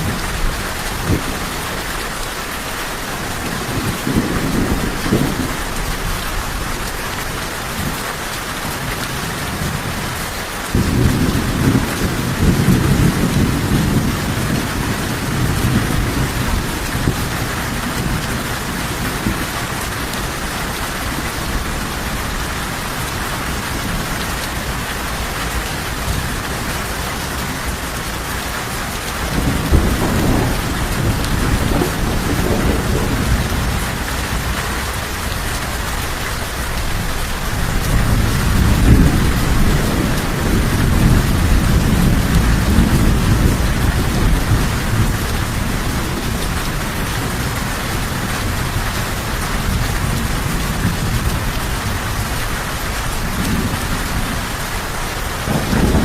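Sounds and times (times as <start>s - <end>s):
steady rain: 0.0s - 56.0s
thunder rumbling: 2.9s - 8.0s, 9.1s - 56.0s.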